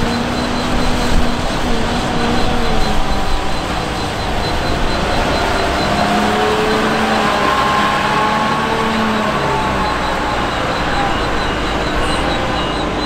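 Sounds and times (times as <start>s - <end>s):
diesel engine running: 0.0s - 13.0s
faint whine: 0.0s - 13.0s.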